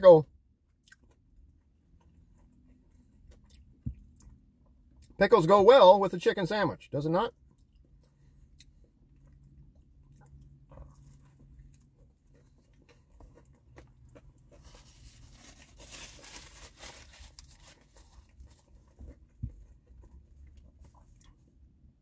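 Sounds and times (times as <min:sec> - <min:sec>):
person chewing crispy food: 0:00.6 - 0:05.2, 0:07.4 - 0:22.0.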